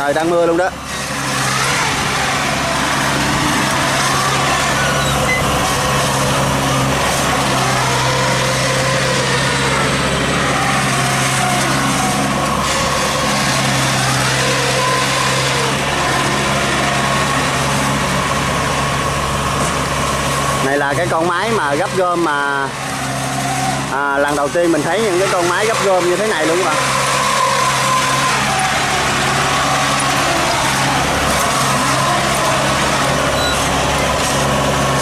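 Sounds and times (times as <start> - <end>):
machine engine running: 0.0 - 35.0.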